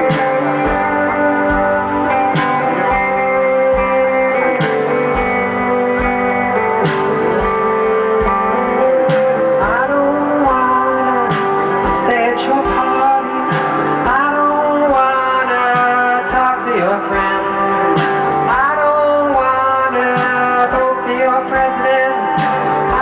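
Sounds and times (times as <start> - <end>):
live rock band playing: 0.0 - 23.0
sliding guitar notes: 0.0 - 23.0.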